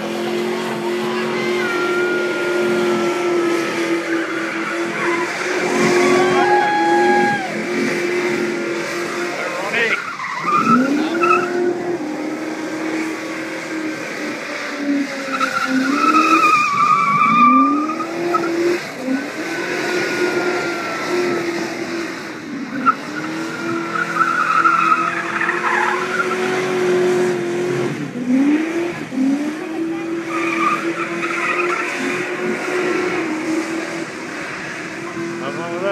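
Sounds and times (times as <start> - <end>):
car engine revving: 0.0 - 35.9
tyres squealing: 0.6 - 22.0, 22.6 - 26.8, 30.0 - 33.9.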